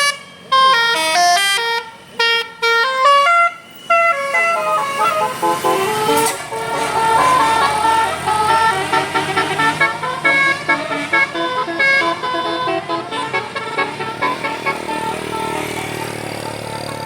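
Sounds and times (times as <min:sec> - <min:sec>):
musical air horn playing a tune: 0:00.0 - 0:17.0.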